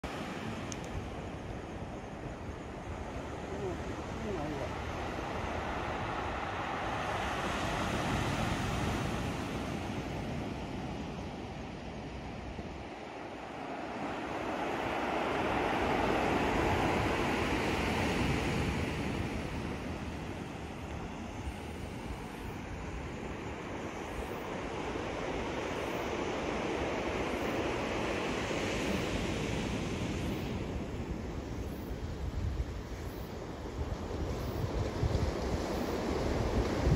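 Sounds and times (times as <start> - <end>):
sea surf washing on shore: 0.0 - 36.9
wind on microphone: 0.1 - 36.9.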